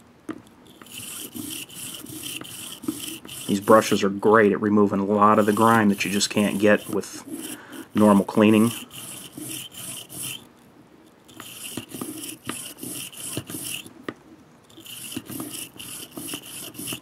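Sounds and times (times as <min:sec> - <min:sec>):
brush scraping in metal chambers: 0:00.7 - 0:10.4, 0:11.3 - 0:13.9, 0:14.7 - 0:17.0.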